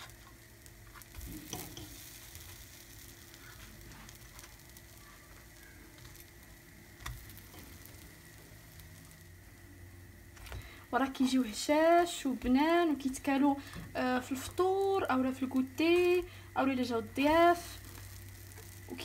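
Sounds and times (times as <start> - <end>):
pancakes sizzling faintly: 0.0 - 19.0.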